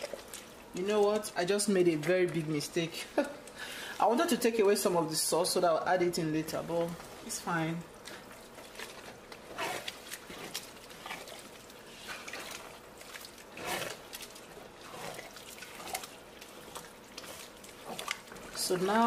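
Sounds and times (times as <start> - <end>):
wet squelching stirring strokes: 0.0 - 19.0.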